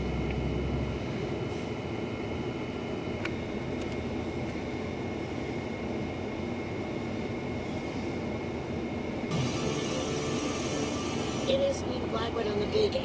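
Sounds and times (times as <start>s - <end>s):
faint high whine: 0.0s - 13.0s
low outdoor rumble: 0.0s - 13.0s.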